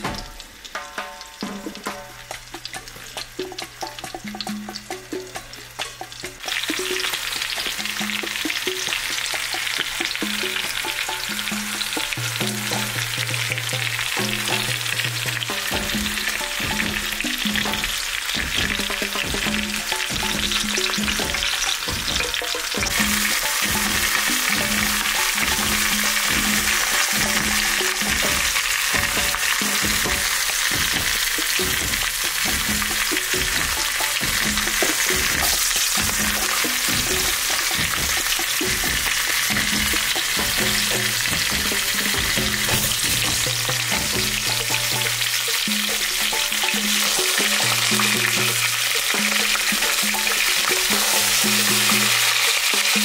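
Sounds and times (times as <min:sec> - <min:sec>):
background music: 0:00.0 - 0:53.0
meat sizzling in hot oil: 0:00.0 - 0:53.0.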